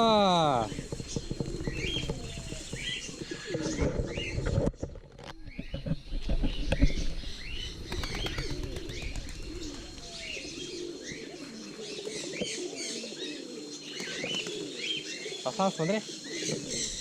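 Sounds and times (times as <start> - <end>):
birds chirping: 0.0 - 17.0
pigeons cooing: 0.0 - 17.0.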